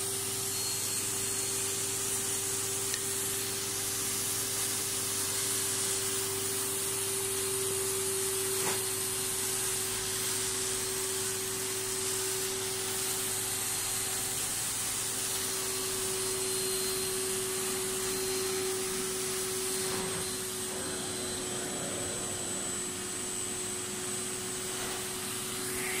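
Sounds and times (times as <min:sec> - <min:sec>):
carpet extractor motor whine: 0:00.0 - 0:26.0
hiss of air and water suction: 0:03.2 - 0:26.0.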